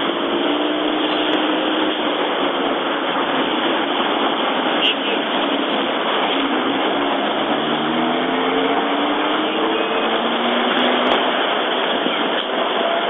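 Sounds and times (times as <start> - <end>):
passing vehicle engine: 0.0 - 13.0
vehicle noise inside car: 0.0 - 13.0.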